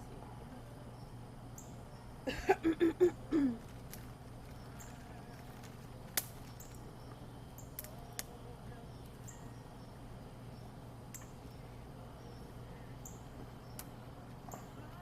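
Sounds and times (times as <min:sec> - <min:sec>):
low steady hum: 0:00.0 - 0:15.0
campfire crackling and popping: 0:02.6 - 0:15.0.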